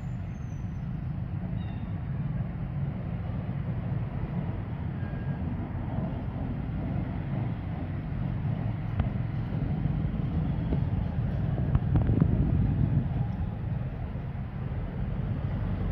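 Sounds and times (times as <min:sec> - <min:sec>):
wind buffeting microphone: 0:02.2 - 0:15.9.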